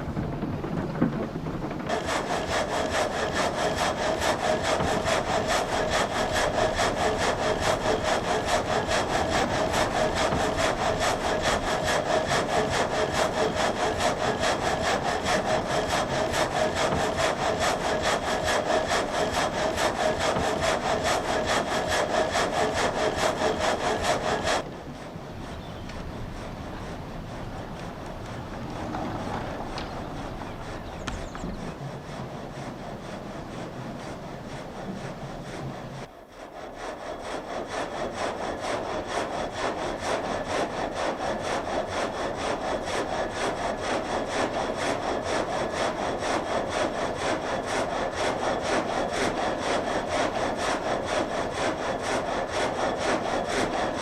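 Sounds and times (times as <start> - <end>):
frame saw sawing through timber: 1.8 - 54.0.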